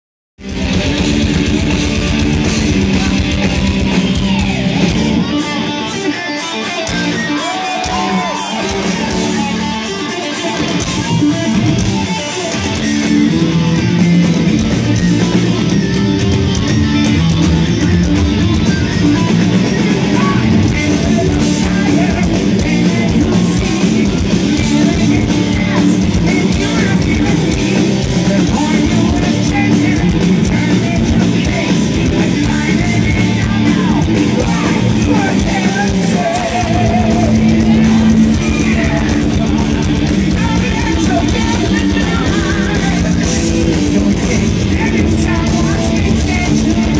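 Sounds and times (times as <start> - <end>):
distorted electric guitars: 0.4 - 46.9
driving drum kit: 0.4 - 46.9.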